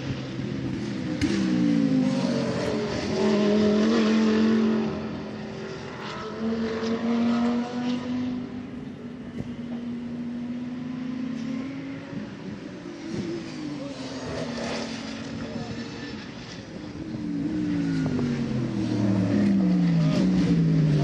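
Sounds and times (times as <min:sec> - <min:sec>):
race cars passing at speed: 0:00.0 - 0:21.0.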